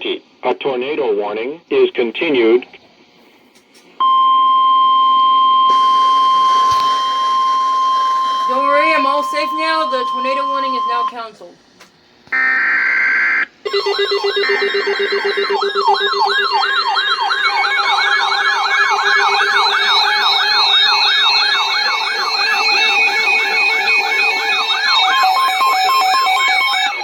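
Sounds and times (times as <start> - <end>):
electronic sirens yelping: 4.0 - 11.2, 12.3 - 27.0
steady held siren tones: 4.0 - 11.3, 12.4 - 27.0.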